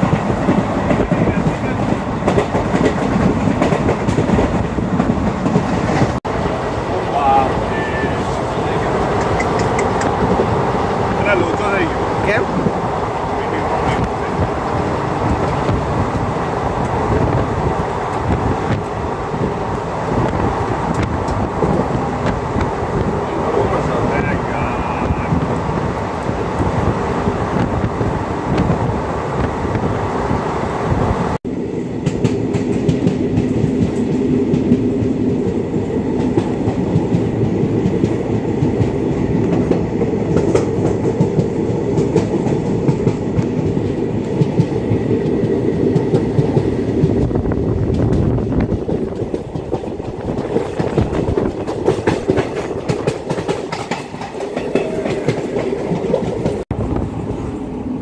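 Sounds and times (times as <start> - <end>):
clickety-clack over rail joints: 0.0 - 6.2, 7.4 - 30.0, 30.9 - 57.1
train wheels rumbling on rail: 0.0 - 58.0.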